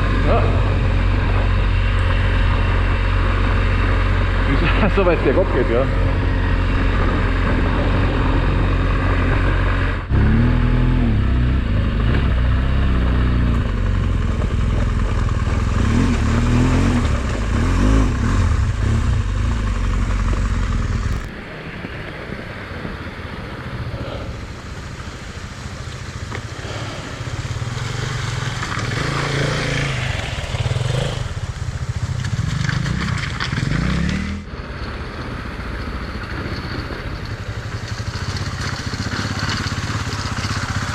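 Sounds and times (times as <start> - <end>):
motorcycle engine revving off-road: 0.0 - 21.9, 22.8 - 40.9.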